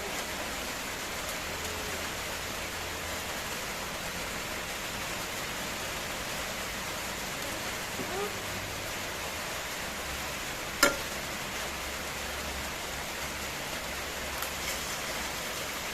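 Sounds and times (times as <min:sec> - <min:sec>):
oil sizzling in a frying pan: 0:00.0 - 0:15.9.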